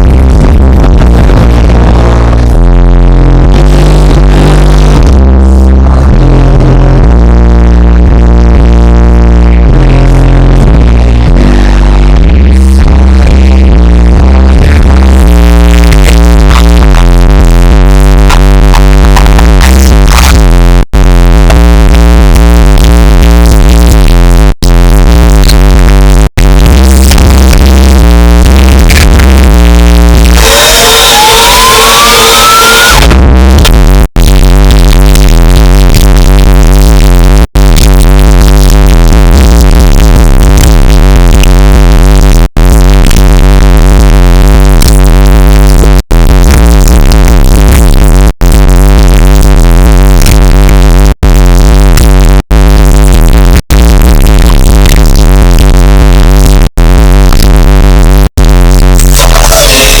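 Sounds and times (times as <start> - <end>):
loud electronic music deep bass: 0.0 - 60.0.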